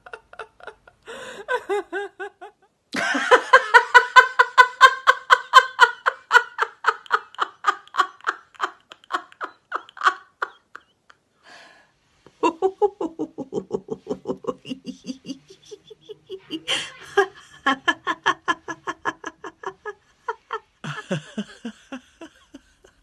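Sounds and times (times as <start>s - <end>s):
woman laughing: 0.0s - 11.0s, 12.3s - 23.0s.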